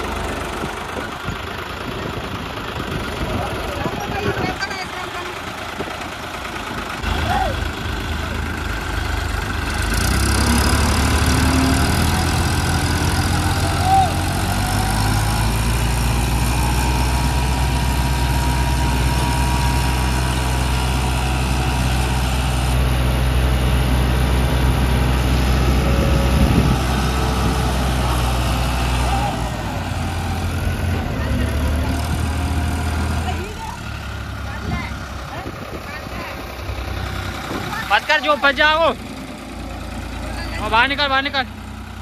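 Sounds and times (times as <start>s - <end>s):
tractor engine straining: 0.0s - 42.0s.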